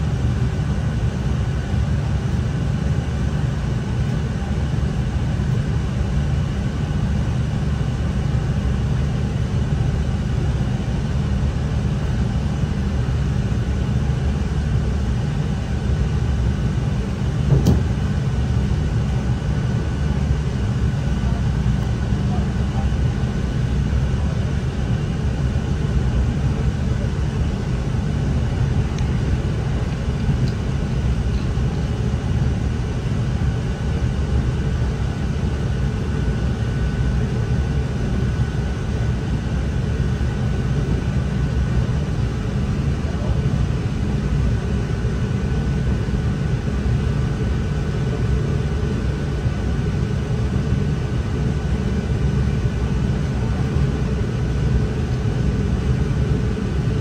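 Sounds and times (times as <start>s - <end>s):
train engine and wheels rumbling: 0.0s - 57.0s.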